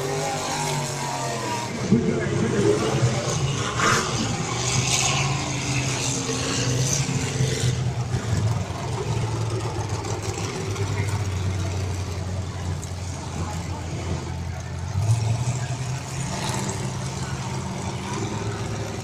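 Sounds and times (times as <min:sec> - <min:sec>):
car engines droning: 0:00.0 - 0:19.0.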